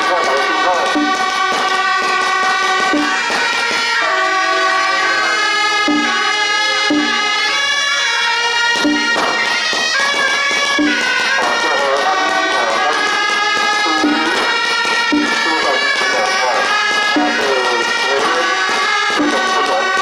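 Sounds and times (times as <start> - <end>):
double-reed shawm melody: 0.0 - 20.0.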